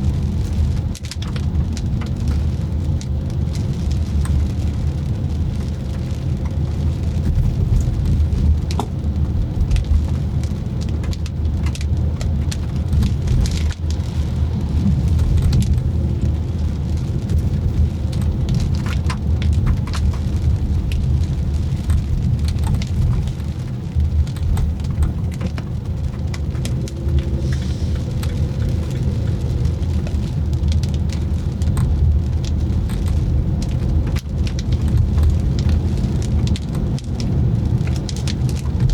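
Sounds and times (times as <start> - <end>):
car driving rumble: 0.0 - 38.9
raindrops tapping on car: 0.0 - 38.9.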